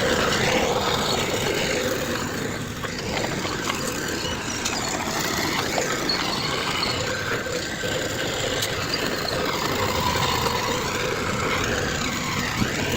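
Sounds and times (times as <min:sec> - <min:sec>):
heavy machinery engines running: 0:00.0 - 0:12.9.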